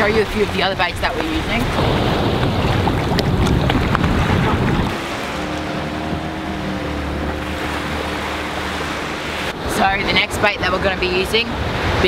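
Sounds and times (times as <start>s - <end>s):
shallow surf lapping: 0.0s - 12.0s
steady motor hum: 0.0s - 12.0s
wind buffeting microphone: 0.0s - 12.0s.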